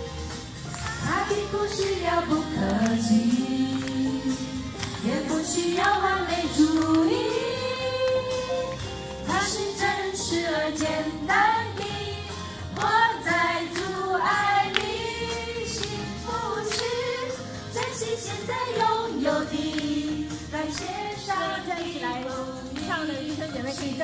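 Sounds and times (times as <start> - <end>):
music under voices: 0.0 - 24.0
women singing together: 0.9 - 24.0.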